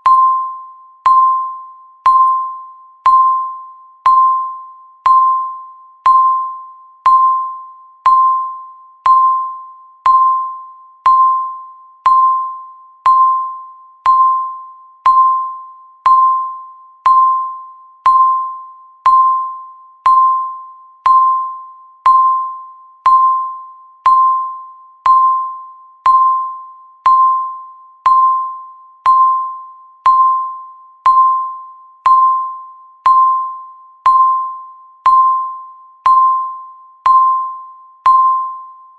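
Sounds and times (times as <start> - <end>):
electronic timer beeps: 0.0 - 38.9.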